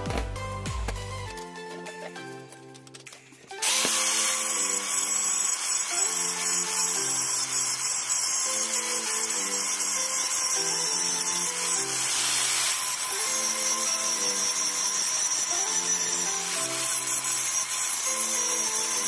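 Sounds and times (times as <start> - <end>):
background music with low melody: 0.0 - 19.0
angle grinder grinding metal: 3.4 - 19.0.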